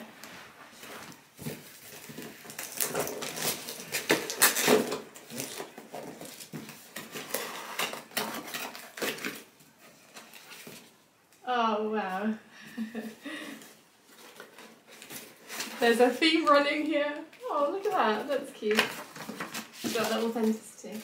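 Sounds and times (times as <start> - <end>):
packaging rustling: 0.7 - 11.0, 13.6 - 21.0.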